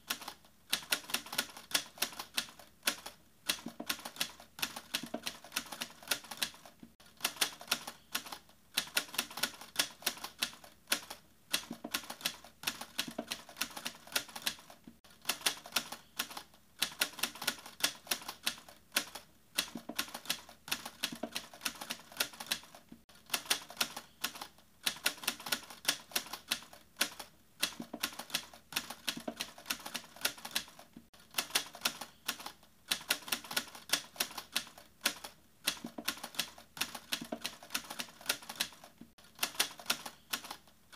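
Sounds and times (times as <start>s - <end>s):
typewriter keys clicking: 0.1s - 40.7s.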